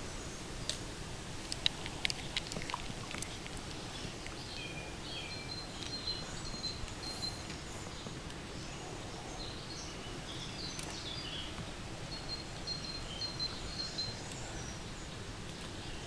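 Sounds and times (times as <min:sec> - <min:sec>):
low background noise: 0:00.0 - 0:16.0
small birds chirping: 0:01.5 - 0:16.0.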